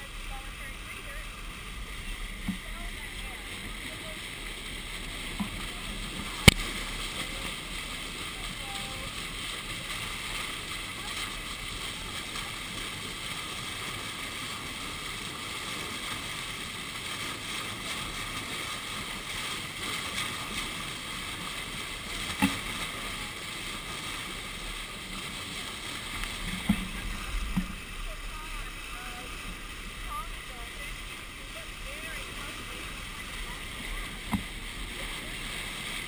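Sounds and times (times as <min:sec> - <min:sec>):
rushing water and wind: 0:00.0 - 0:36.0.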